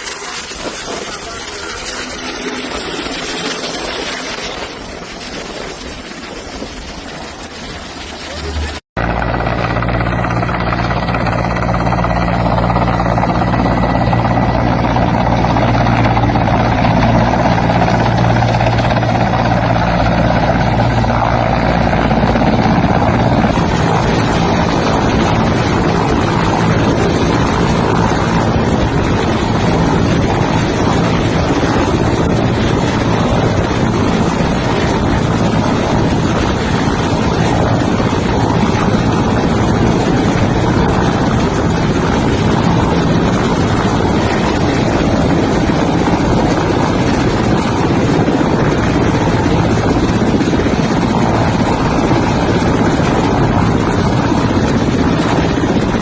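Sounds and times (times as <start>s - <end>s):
loud engine drone: 0.0s - 56.0s.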